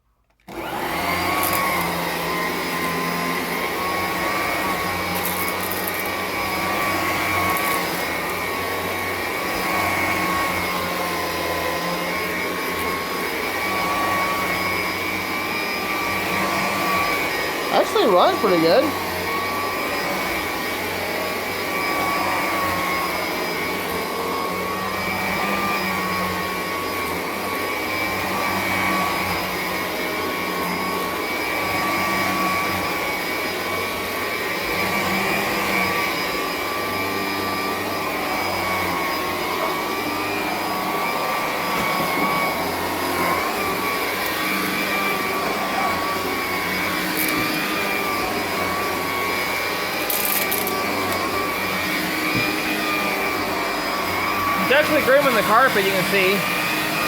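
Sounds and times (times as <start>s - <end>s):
vacuum cleaner running: 0.4s - 57.0s.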